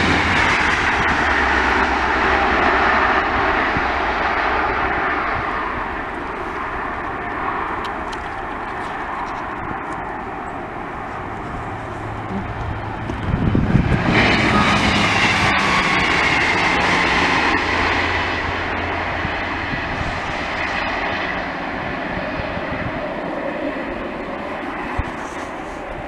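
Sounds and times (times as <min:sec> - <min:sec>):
falling whine: 0:00.0 - 0:26.0
train engine and wheel rush: 0:00.0 - 0:26.0.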